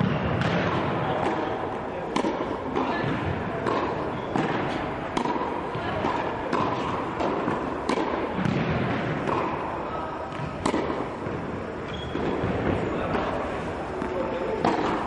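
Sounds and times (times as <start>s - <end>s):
tennis balls bouncing on court: 0.0s - 15.0s
tennis balls hit by racquets: 0.0s - 15.0s.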